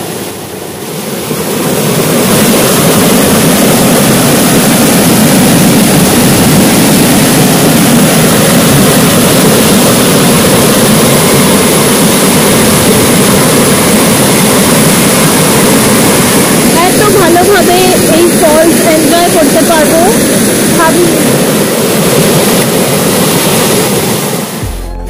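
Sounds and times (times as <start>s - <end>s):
waterfall rushing over rocks: 0.0s - 24.6s.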